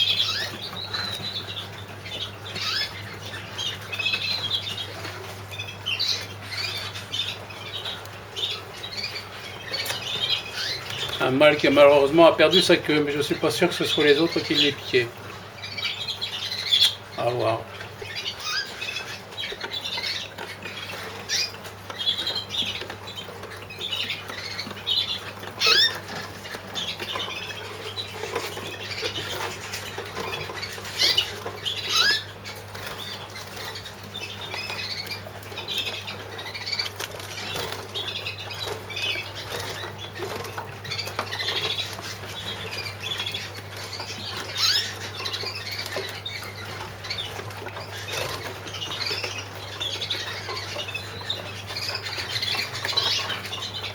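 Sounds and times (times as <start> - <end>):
canaries chirping: 0.0 - 53.9
rustling against cages: 0.0 - 53.9.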